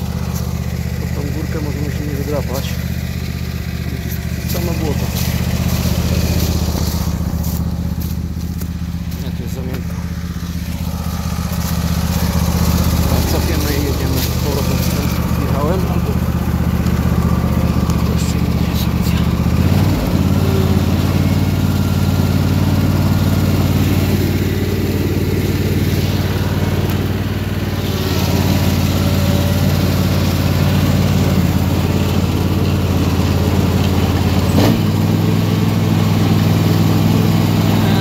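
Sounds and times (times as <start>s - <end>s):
garden tractor engine running: 0.0s - 38.0s.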